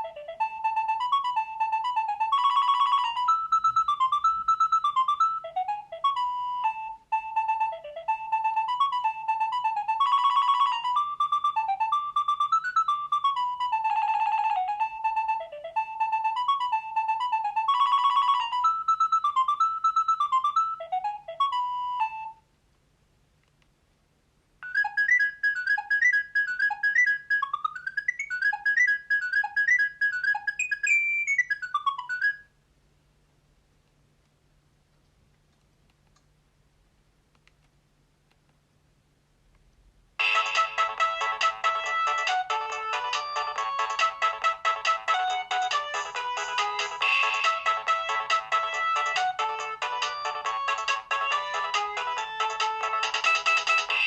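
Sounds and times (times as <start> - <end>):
mobile phone ringtone melody: 0.0 - 22.4, 24.6 - 32.5, 40.2 - 54.0.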